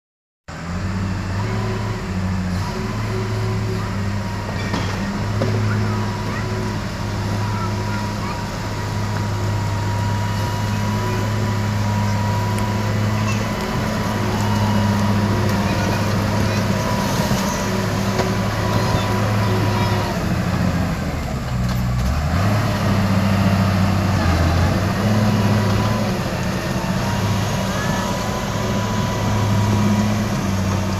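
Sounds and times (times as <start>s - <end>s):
heavy engine humming: 0.5s - 30.9s.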